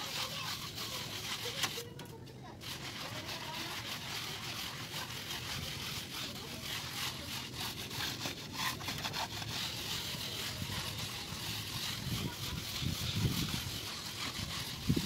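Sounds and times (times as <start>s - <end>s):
trowel scraping cement on wall: 0.0s - 15.0s.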